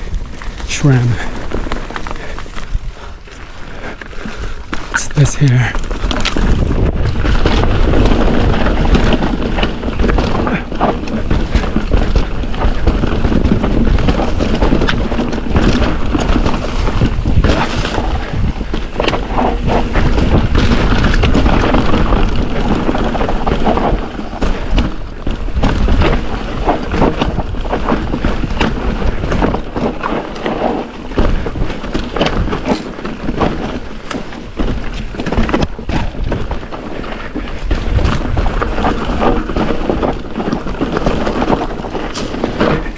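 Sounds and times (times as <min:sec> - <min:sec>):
bike rattling over bumps: 0:00.0 - 0:42.9
bike tyres on dirt: 0:00.0 - 0:42.9
wind buffeting microphone: 0:00.0 - 0:42.9.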